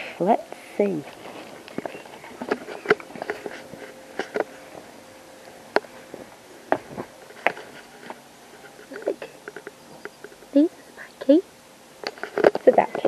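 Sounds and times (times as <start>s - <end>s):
faint steady hum: 0.0s - 13.0s
low hiss: 0.0s - 13.0s.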